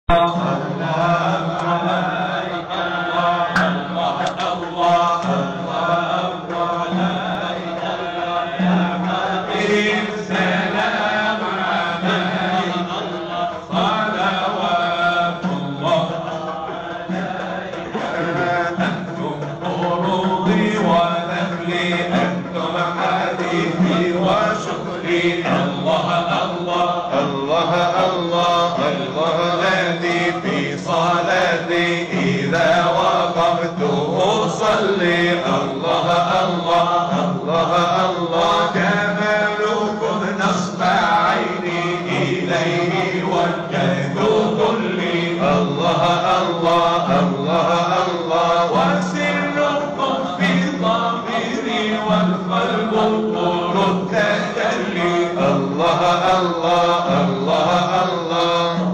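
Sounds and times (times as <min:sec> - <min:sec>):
person singing through microphone: 0:00.0 - 0:58.9
men chanting together: 0:00.1 - 0:58.9.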